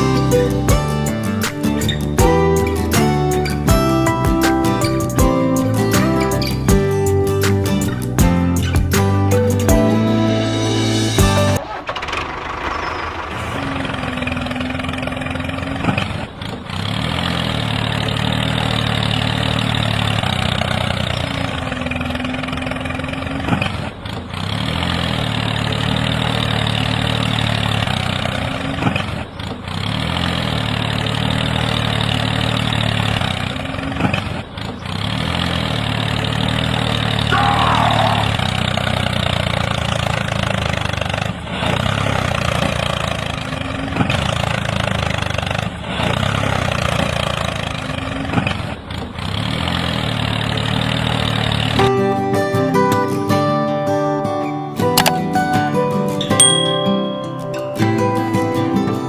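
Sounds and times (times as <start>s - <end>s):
tractor engine idling: 0.0s - 52.0s, 55.0s - 59.0s.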